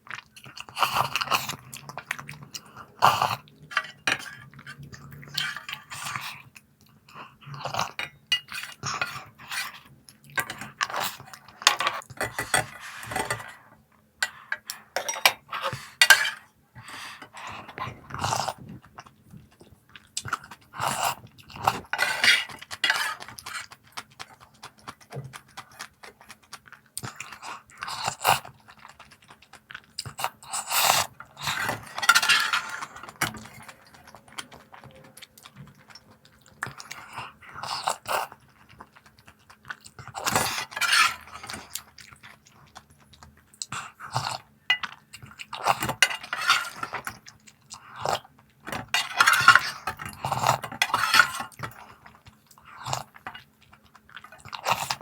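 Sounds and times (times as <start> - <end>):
crunching and chewing crisp snacks: 0.0 - 55.0.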